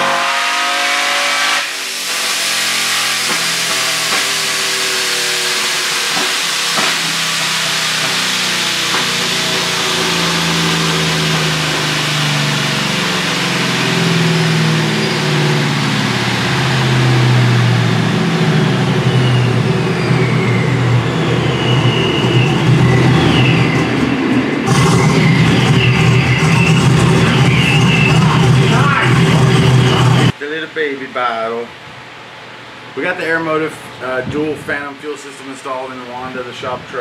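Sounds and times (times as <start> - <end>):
supercharged engine under load: 0.0 - 30.4
high whine falling in pitch: 0.0 - 31.8.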